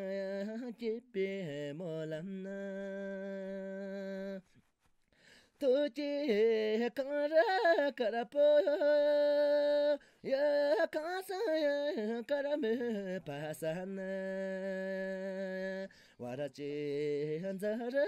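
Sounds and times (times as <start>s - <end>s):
person singing unaccompanied: 0.0s - 4.6s, 5.6s - 18.0s.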